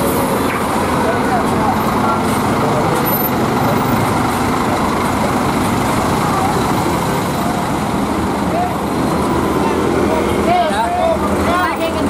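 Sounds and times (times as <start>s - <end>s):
diesel bus engine idling: 0.0s - 12.0s
street noise: 0.0s - 12.0s.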